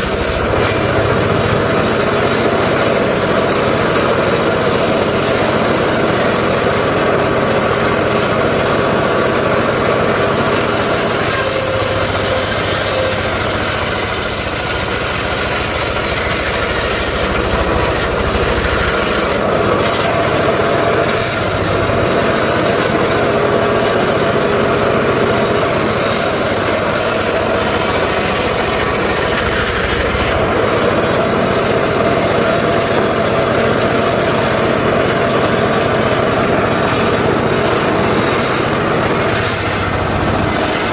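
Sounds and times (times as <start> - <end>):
engine-driven saw droning: 0.0 - 40.9.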